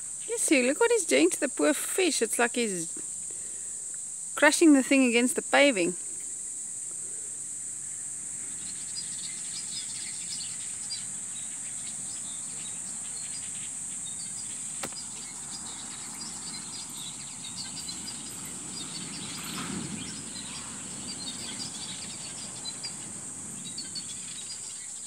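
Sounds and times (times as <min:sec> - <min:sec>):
high-pitched insect drone: 0:00.0 - 0:25.0.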